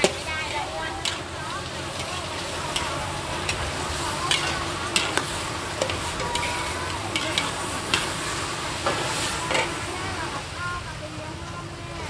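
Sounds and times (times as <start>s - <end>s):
metal spatulas clanking on a wok: 0.0s - 10.0s
food sizzling: 0.0s - 12.0s.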